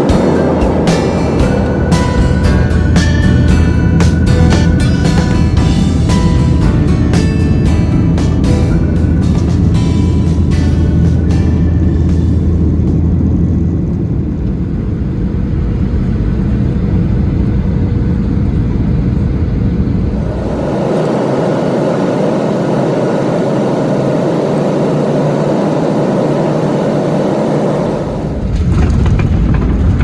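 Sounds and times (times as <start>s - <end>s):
vehicle running rumble: 0.0s - 30.0s.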